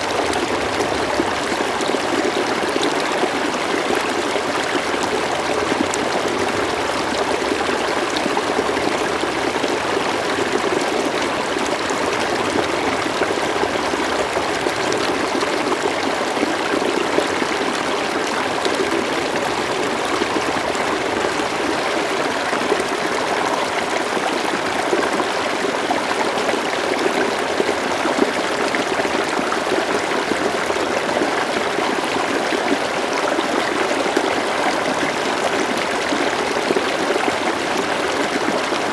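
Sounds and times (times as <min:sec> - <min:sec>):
river water babbling: 0:00.0 - 0:38.9.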